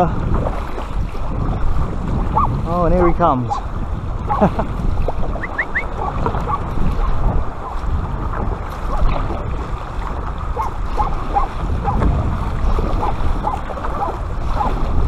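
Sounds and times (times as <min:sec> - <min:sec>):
water splashing along kayak hull: 0:00.0 - 0:15.0
wind rumbling on microphone: 0:00.0 - 0:15.0.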